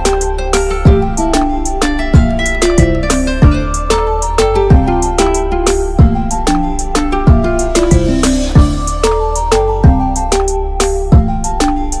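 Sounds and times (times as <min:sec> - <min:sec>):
plucked-string instrumental music: 0:00.0 - 0:12.0.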